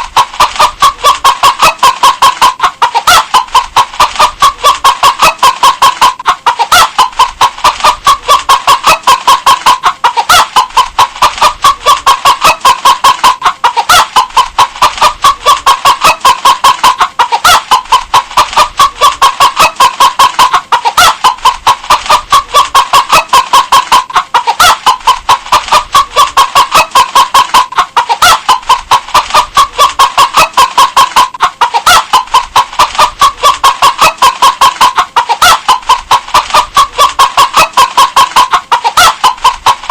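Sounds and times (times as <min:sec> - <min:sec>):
hen clucking rapidly: 0:00.0 - 0:39.9.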